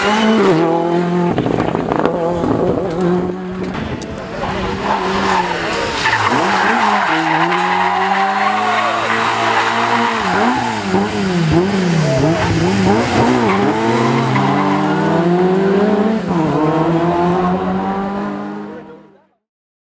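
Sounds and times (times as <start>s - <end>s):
rally car engine revving: 0.0s - 19.2s.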